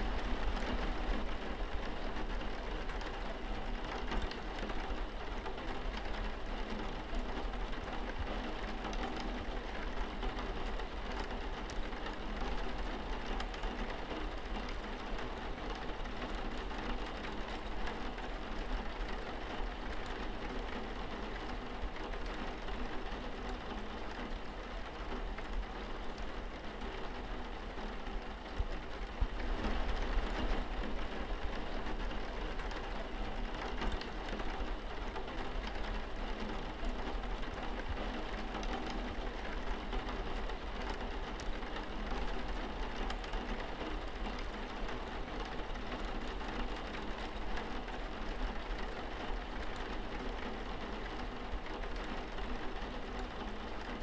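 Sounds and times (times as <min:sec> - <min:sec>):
rain pattering on window glass: 0:00.0 - 0:54.0.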